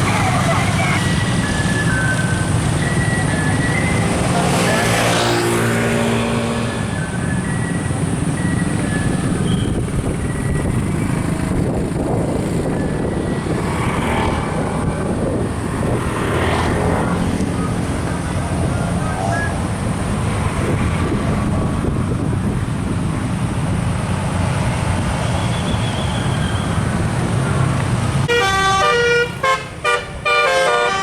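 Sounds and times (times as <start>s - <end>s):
road noise: 0.0s - 31.0s
vehicle engines running: 0.0s - 31.0s
vehicles whooshing past: 0.0s - 31.0s.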